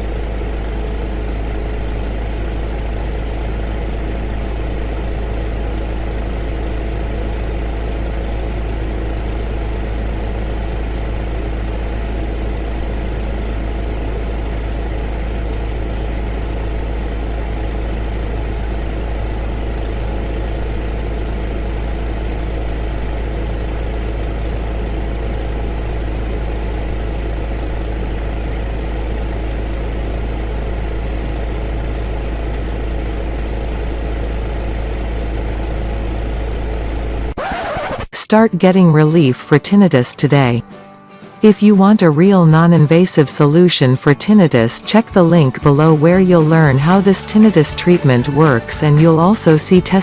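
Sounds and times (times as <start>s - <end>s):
deep low hum: 0.0s - 37.4s, 41.4s - 50.0s.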